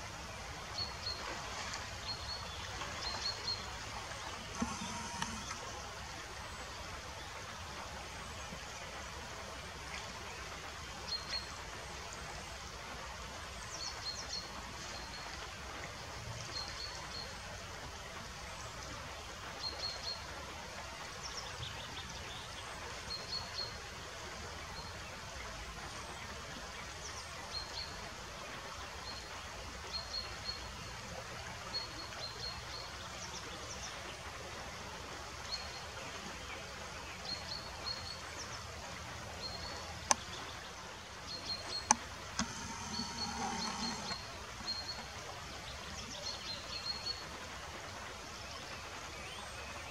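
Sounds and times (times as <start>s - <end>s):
river water running: 0.0s - 49.9s.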